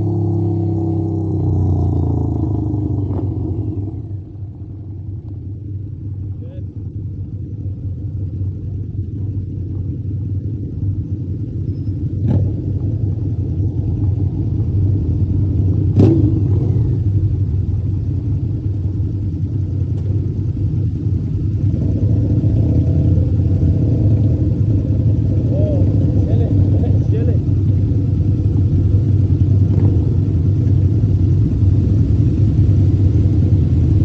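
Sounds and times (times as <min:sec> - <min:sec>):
vehicle rumbling: 0:00.0 - 0:34.0.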